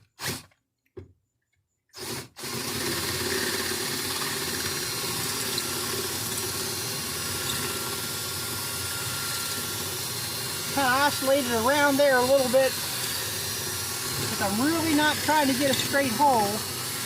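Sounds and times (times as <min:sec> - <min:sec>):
electric drill drilling metal: 0:00.0 - 0:00.6, 0:02.0 - 0:17.0.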